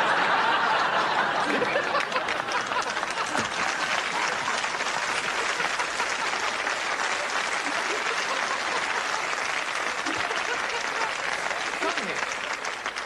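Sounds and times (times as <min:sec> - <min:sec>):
audience applauding: 0:00.0 - 0:13.0
audience laughter: 0:00.0 - 0:13.0.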